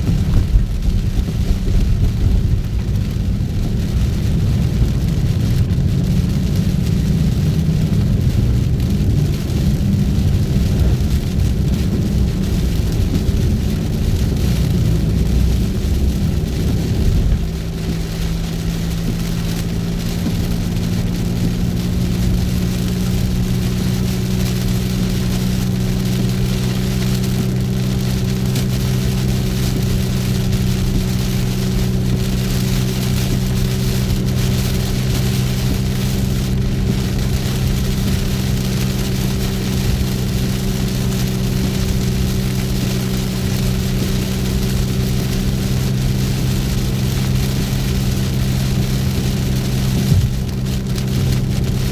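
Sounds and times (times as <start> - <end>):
heavy rain on car: 0.0 - 51.9
low rumble: 0.0 - 51.9
road noise: 0.0 - 51.9
vehicle low hum: 0.0 - 51.9.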